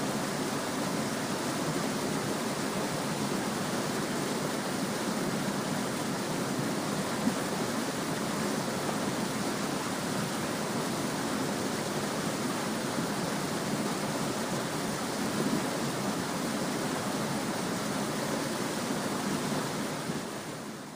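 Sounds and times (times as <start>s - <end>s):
small stream babbling: 0.0s - 20.9s.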